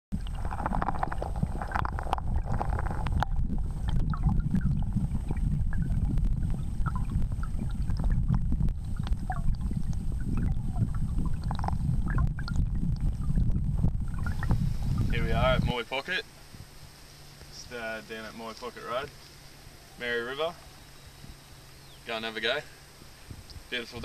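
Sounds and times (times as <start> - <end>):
wind buffeting microphone: 0.1 - 24.0.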